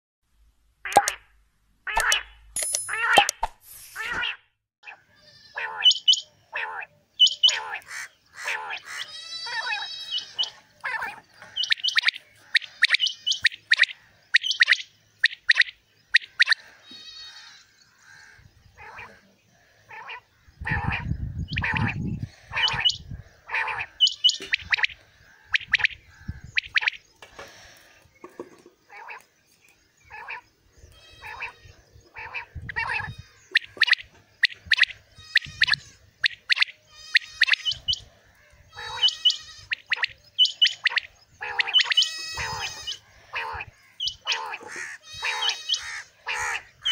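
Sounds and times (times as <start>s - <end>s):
quails calling: 4.0s - 29.3s, 30.0s - 46.9s.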